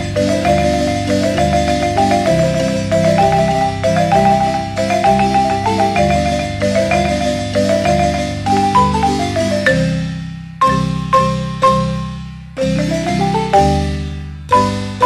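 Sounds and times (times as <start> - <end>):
repeating bass line: 0.0 - 14.9
mallet percussion melody: 0.0 - 15.0.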